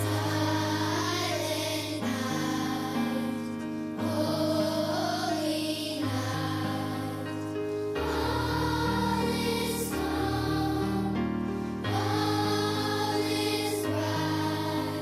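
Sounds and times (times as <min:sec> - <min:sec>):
choir singing with accompaniment: 0:00.0 - 0:15.0.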